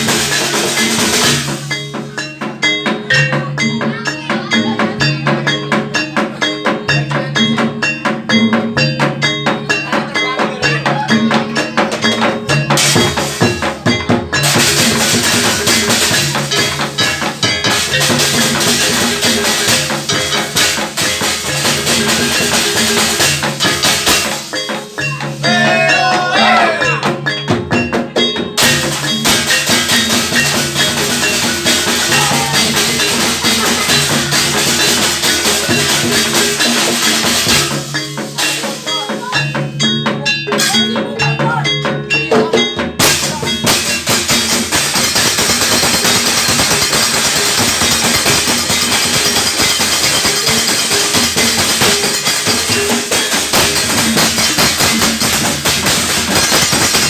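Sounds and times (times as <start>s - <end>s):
gamelan ensemble playing: 0.0s - 57.0s.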